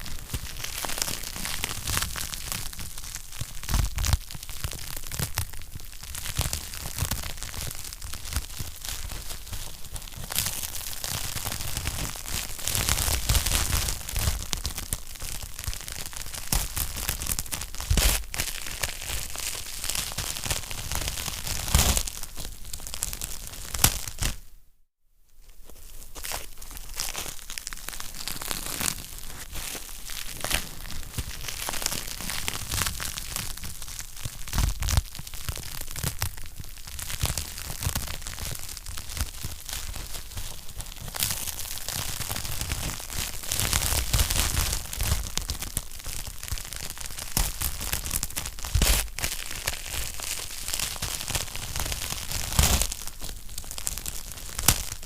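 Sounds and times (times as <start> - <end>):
wood fire crackling and popping: 0.0 - 24.4, 27.1 - 55.0.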